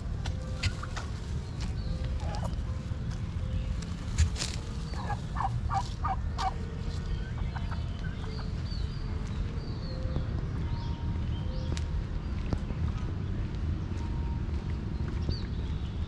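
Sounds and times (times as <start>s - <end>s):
bird calls: 0.2s - 14.3s
small birds chirping: 0.2s - 16.0s.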